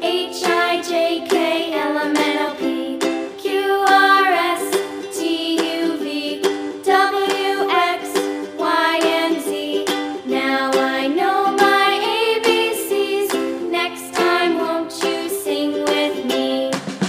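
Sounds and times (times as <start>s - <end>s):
plucked ukulele tune: 0.0s - 17.0s.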